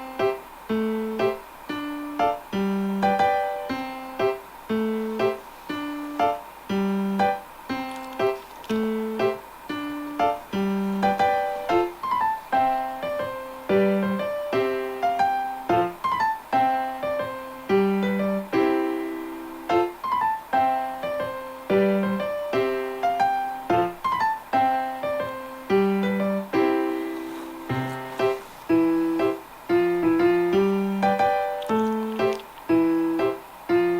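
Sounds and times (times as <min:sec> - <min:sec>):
piano music: 0:00.0 - 0:33.9.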